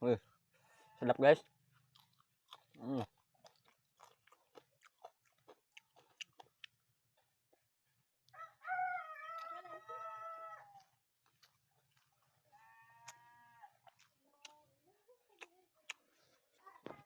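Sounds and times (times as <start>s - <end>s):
chewing and crunching food: 0.2s - 17.0s.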